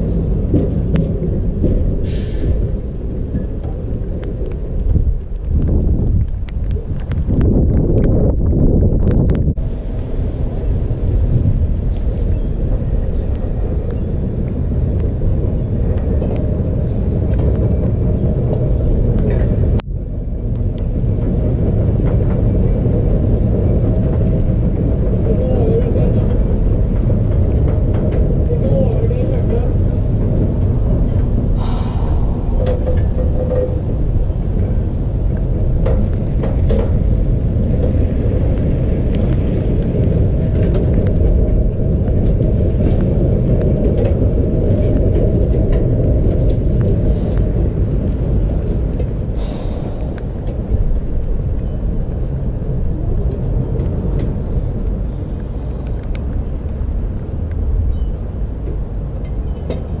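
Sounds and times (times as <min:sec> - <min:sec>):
tram rolling rumble: 0:00.0 - 1:00.0.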